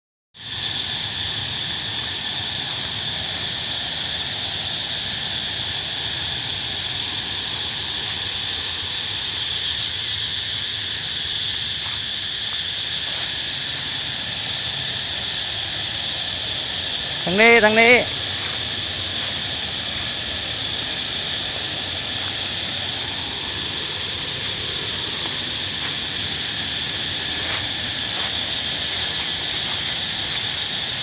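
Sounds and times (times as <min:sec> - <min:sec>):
cicadas droning: 0:00.4 - 0:31.0.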